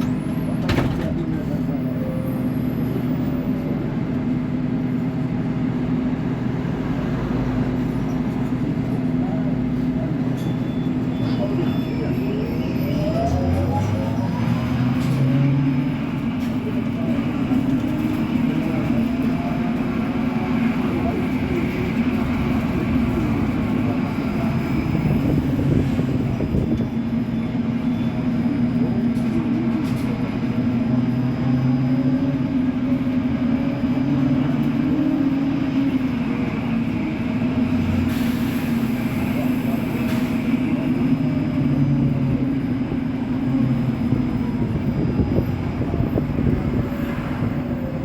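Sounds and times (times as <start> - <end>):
bus engine humming: 0.0 - 48.0
people's voices: 0.0 - 48.0.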